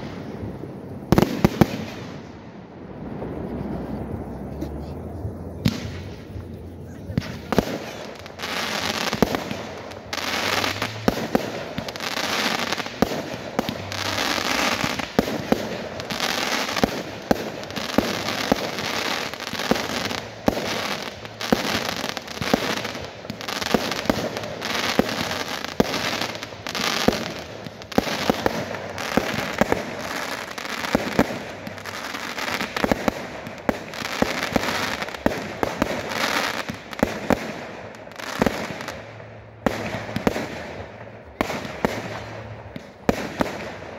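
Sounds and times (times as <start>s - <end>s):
fireworks crackling and hissing: 0.0s - 43.9s.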